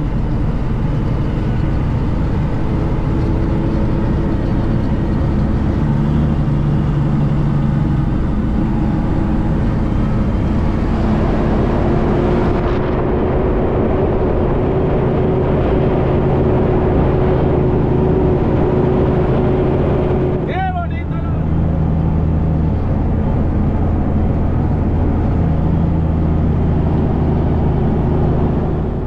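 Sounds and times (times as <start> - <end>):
road noise: 0.0 - 29.0
truck diesel engine running: 0.0 - 29.0.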